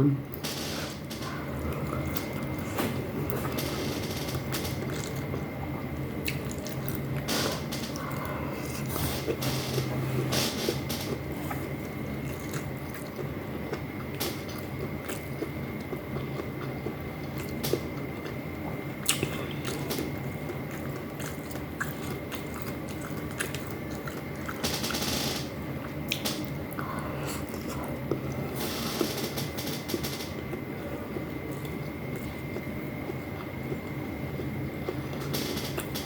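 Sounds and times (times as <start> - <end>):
person chewing food: 1.2 - 24.6, 25.8 - 28.5, 30.4 - 36.0.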